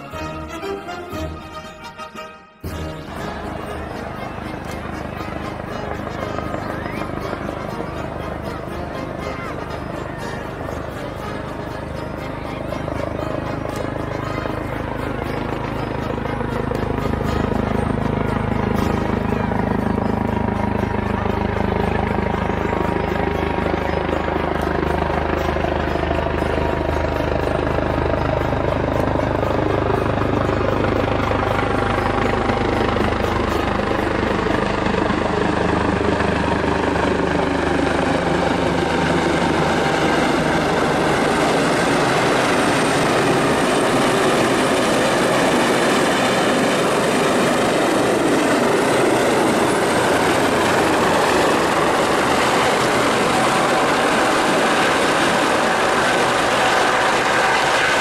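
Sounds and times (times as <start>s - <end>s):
helicopter flying overhead: 0.0s - 58.0s.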